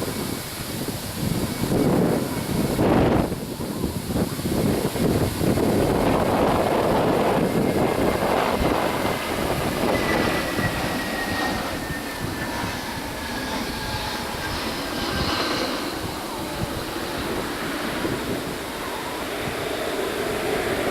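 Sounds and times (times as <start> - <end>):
jet airliner engines passing: 0.0 - 20.9
turbine whine: 0.0 - 20.9.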